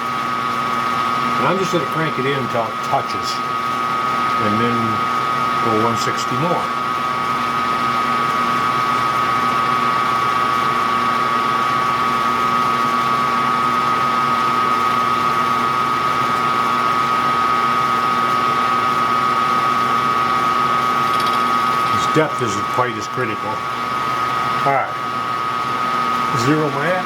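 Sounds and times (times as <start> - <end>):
milling machine spindle whining: 0.0 - 27.0.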